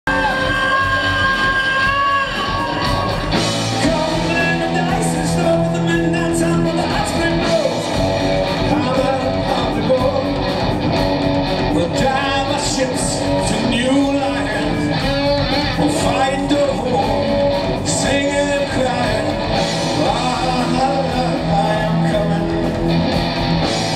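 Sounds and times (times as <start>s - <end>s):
male singer: 0.0s - 10.7s, 11.6s - 23.0s
drums: 0.0s - 23.9s
electric bass: 0.1s - 23.9s
electric guitar: 0.1s - 23.9s.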